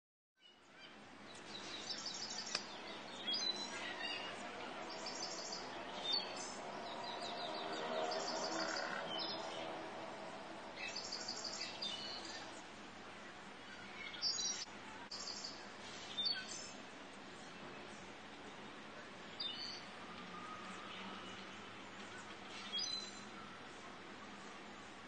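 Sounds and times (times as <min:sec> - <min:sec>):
birds chirping: 0:00.4 - 0:25.0.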